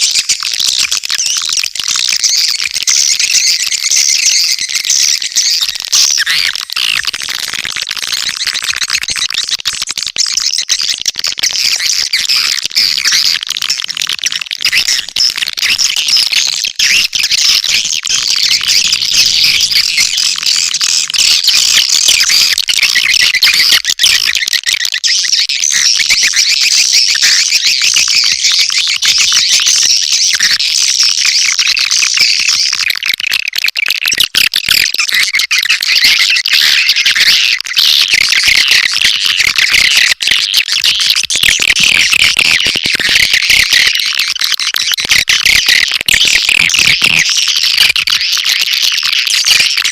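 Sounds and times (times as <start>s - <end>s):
swiftlets chattering and chirping: 0.0s - 49.9s.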